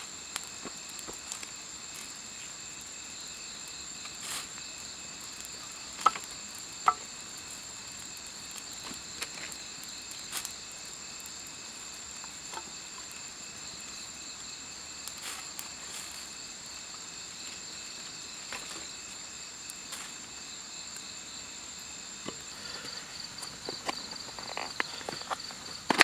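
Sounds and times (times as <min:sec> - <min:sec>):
campfire wood crackling: 0:00.0 - 0:26.0
night insects trilling: 0:00.0 - 0:26.0.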